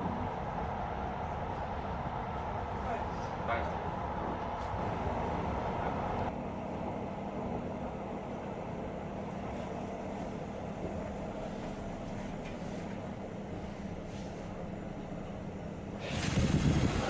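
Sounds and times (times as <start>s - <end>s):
tram rolling rumble and hum: 0.0s - 17.0s.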